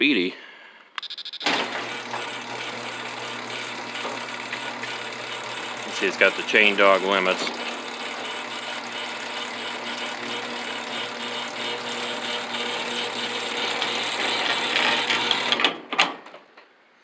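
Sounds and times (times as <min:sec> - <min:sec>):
garage door opener running: 0:01.4 - 0:16.3.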